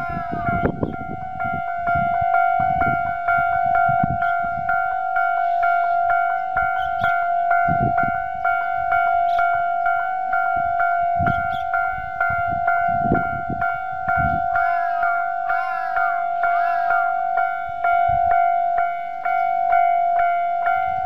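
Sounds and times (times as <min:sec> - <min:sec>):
level crossing warning bell ringing: 0:00.0 - 0:21.0
wind buffeting microphone: 0:00.0 - 0:21.0.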